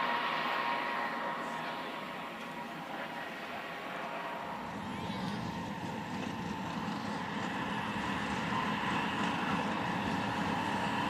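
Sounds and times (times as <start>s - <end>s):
rack locomotive running: 0.0s - 11.0s.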